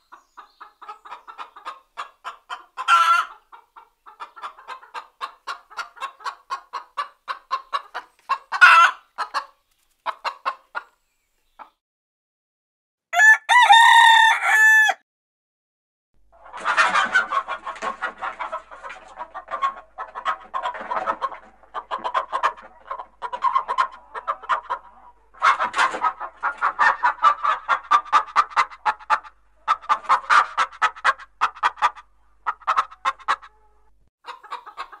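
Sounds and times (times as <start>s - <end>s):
hens clucking: 0.0s - 11.0s, 16.3s - 35.0s.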